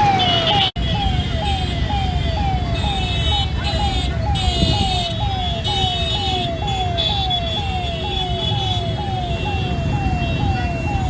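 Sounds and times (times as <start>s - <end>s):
level crossing warning alarm: 0.0s - 11.0s
road traffic rumble: 0.0s - 11.0s.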